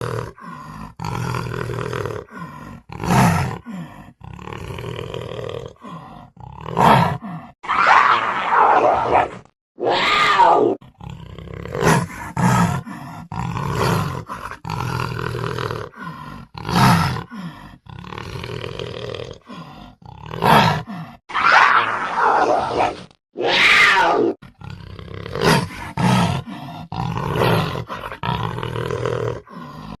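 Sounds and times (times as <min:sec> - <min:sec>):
panther roaring: 0:00.0 - 0:30.0.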